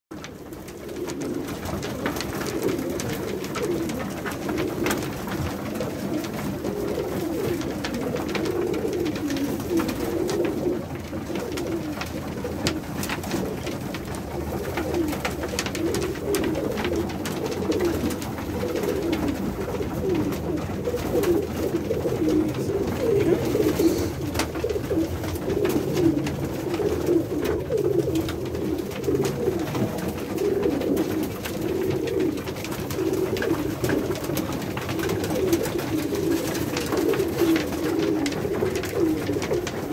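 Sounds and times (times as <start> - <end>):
pigeons cooing: 0.2 - 39.9.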